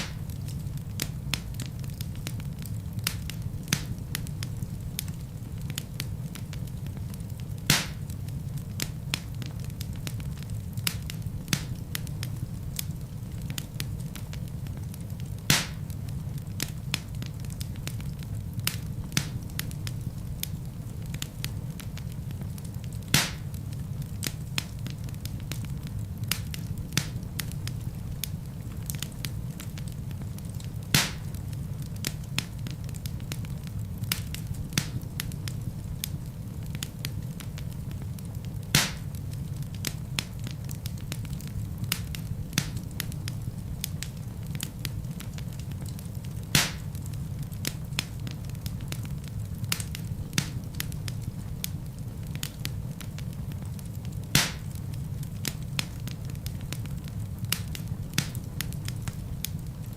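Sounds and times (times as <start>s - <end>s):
loud fire pops: 0.0s - 59.9s
low rumble of flame: 0.0s - 59.9s
wood fire crackling: 0.0s - 59.9s.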